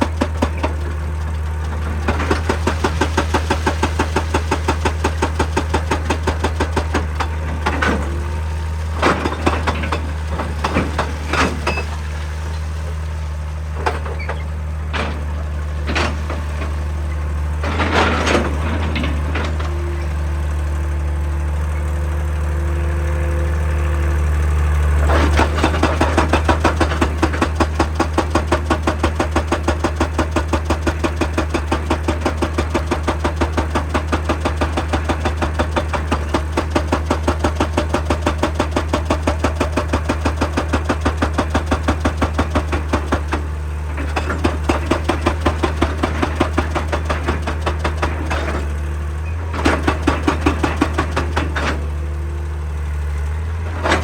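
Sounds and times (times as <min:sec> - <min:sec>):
hydraulic breaker hammer pounding: 0:00.0 - 0:21.2, 0:25.0 - 0:54.0
excavator diesel engine running: 0:00.0 - 0:54.0.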